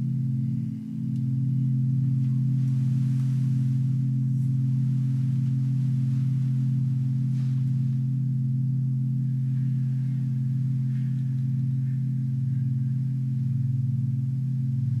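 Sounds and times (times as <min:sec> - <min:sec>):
meditation music with ringing drone: 0:00.0 - 0:15.0.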